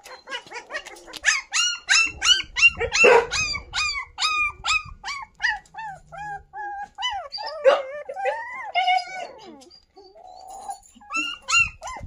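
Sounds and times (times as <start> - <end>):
puppies yelping and crying: 0.0 - 12.0.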